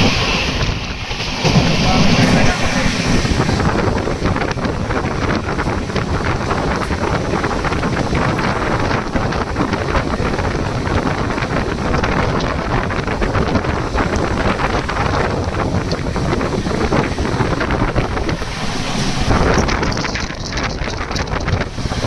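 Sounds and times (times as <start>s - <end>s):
moving train rumble: 0.0s - 22.0s
wind buffeting microphone: 0.0s - 22.0s.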